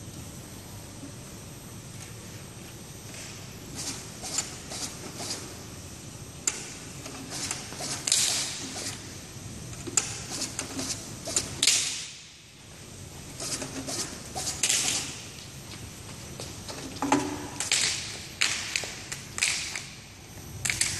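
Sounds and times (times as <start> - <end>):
labeling machine hum: 0.0 - 20.9.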